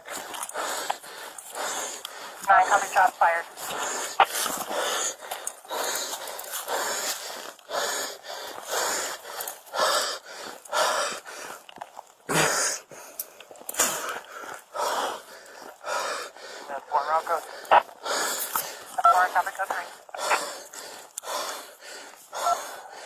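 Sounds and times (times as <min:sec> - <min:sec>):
man breathing heavily: 0:00.0 - 0:23.0.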